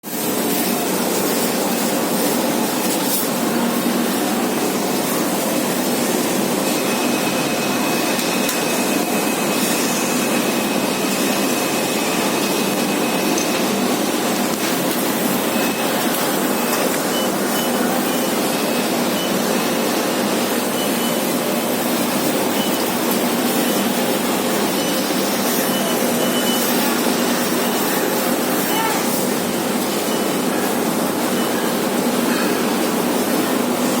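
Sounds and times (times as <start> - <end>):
factory machinery running: 0.0 - 34.0.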